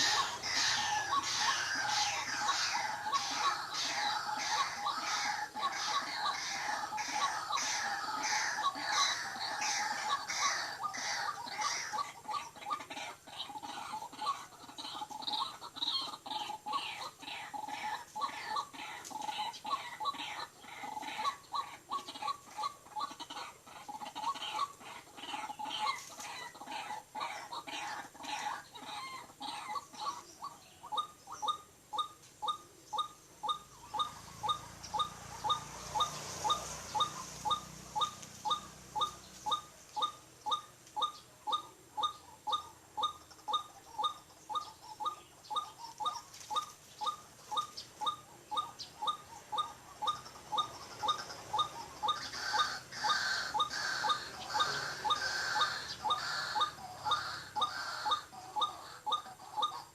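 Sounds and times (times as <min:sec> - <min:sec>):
waterhen calling: 0:00.0 - 0:59.9.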